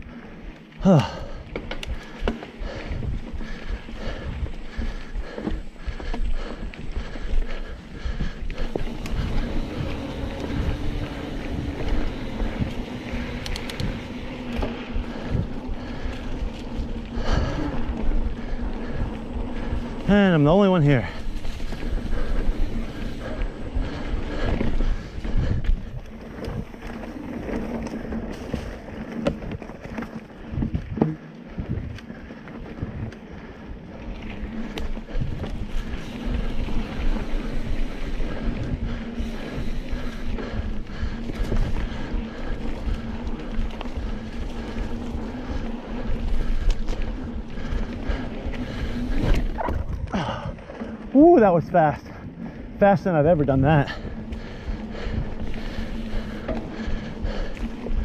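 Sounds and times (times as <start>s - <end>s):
bike tyres rumbling over dirt: 0.0s - 58.0s
wind buffeting microphone: 1.2s - 58.0s.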